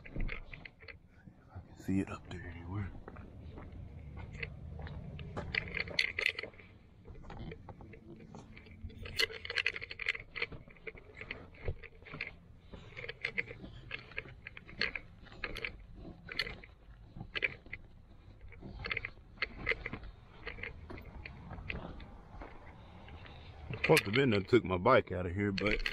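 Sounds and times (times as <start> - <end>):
cable crinkling and scraping: 0.0 - 25.9.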